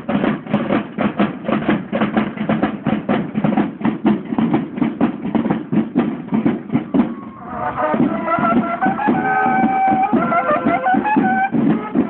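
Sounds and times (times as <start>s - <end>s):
bugles playing a march: 0.0s - 12.0s
field drums beating: 0.0s - 12.0s.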